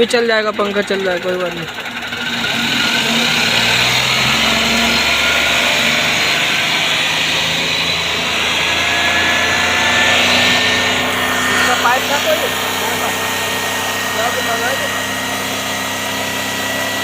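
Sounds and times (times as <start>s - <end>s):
engine whirring: 0.0s - 17.0s.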